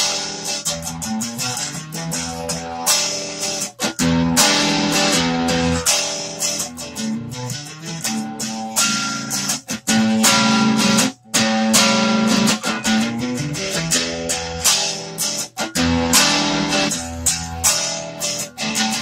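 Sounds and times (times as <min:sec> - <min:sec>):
overdriven electric guitar: 0:00.0 - 0:19.0.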